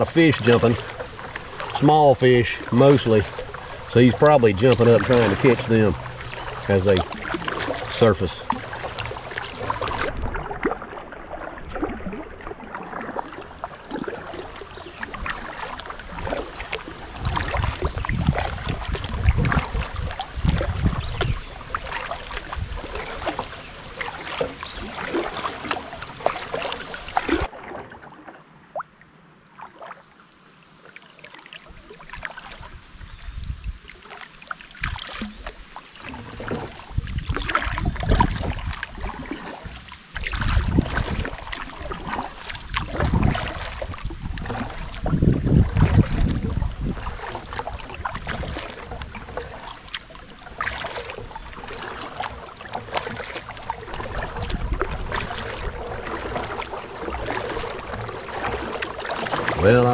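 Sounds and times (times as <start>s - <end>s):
paddle splashing: 0.0s - 59.9s
water sloshing against kayak: 0.0s - 59.9s.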